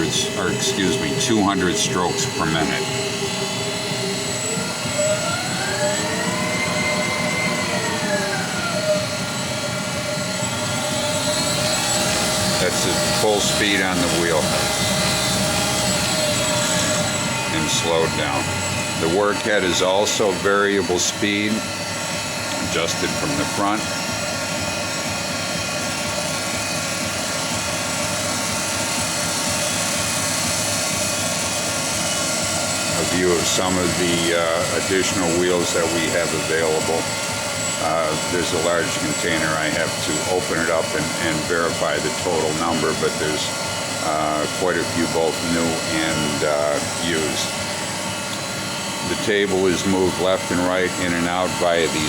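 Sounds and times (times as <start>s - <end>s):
grinder motor whine: 0.0s - 52.0s.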